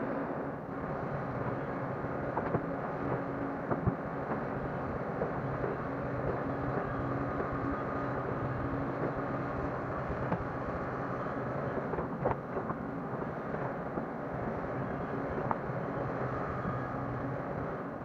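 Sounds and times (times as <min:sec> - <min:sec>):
excavator diesel engine running: 0:00.2 - 0:18.0.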